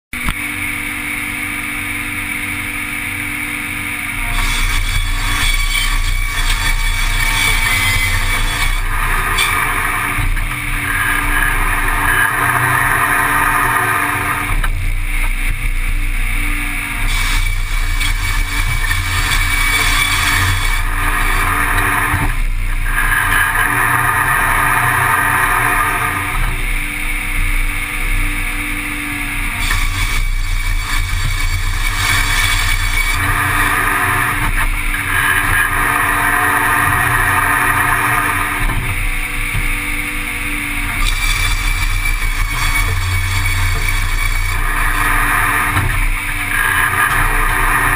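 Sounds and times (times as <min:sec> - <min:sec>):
saw cutting boards: 0:00.2 - 0:47.9
sawmill blade droning: 0:00.2 - 0:47.9.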